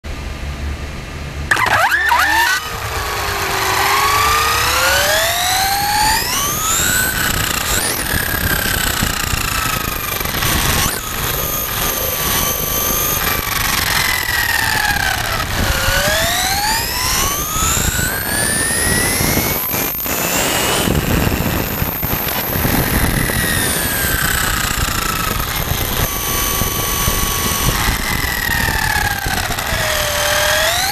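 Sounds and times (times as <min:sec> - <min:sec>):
tyre road noise: 0:00.1 - 0:30.9
electric motor whine: 0:01.5 - 0:30.9.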